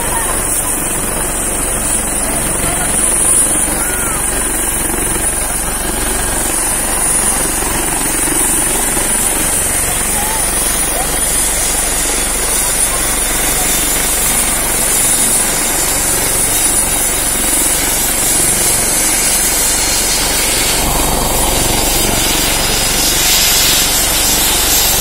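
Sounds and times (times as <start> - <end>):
helicopter turbine engine running: 0.0 - 25.0
high turbine whine: 0.0 - 25.0.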